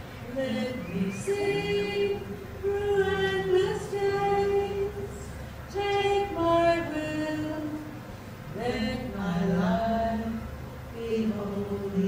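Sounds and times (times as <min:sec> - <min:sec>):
woman singing long held notes: 0:00.2 - 0:12.0.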